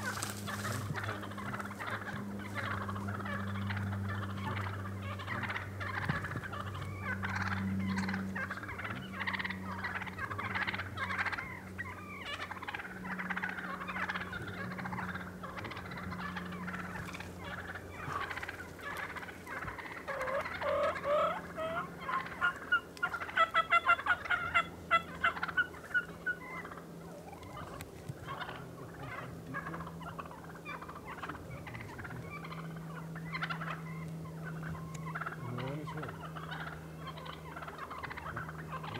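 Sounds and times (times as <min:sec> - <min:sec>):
turkey gobble: 0:00.0 - 0:38.9
turkeys chattering: 0:00.0 - 0:38.9.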